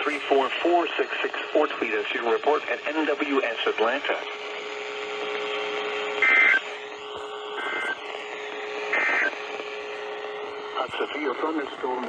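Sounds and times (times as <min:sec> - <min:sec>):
low hum and radio hiss: 0:00.0 - 0:12.0.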